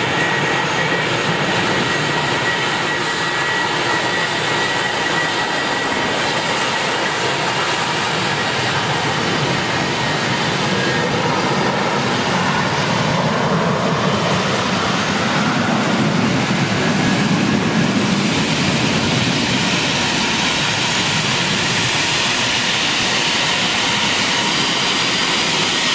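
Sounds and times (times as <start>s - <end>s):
jet engines taxiing: 0.0s - 25.9s.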